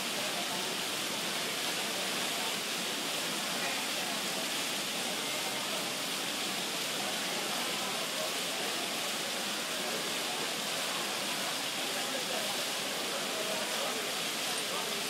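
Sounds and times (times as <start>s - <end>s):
fountain water falling: 0.0s - 15.0s
murmur of voices: 0.0s - 15.0s.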